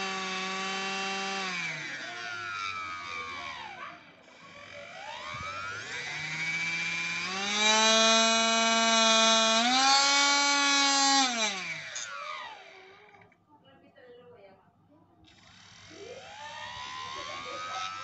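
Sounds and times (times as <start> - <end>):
electric motor whining: 0.0 - 13.4, 15.3 - 18.0.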